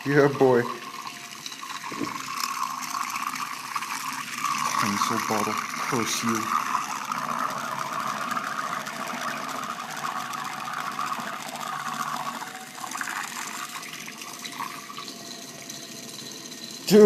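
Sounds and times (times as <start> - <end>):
water churning in a glass: 0.0 - 17.0.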